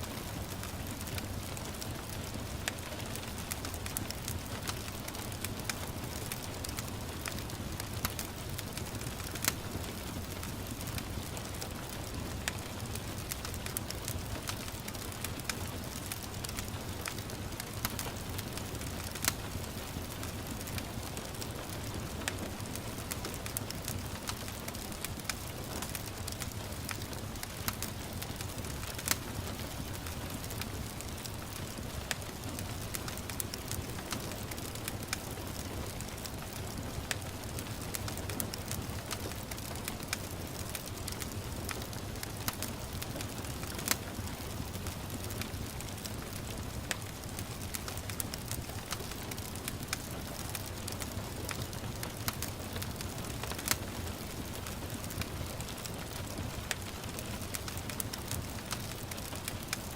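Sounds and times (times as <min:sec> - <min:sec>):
gentle rain hissing: 0:00.0 - 0:59.9
wood fire crackling: 0:00.0 - 0:59.9.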